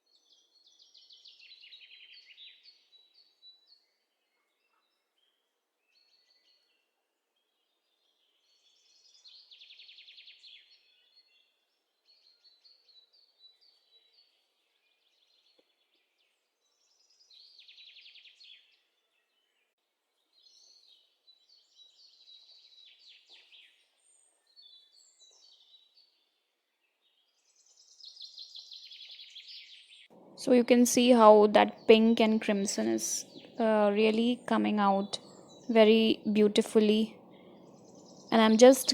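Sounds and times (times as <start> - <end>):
faint birdsong chirps and trills: 0.0 - 38.9.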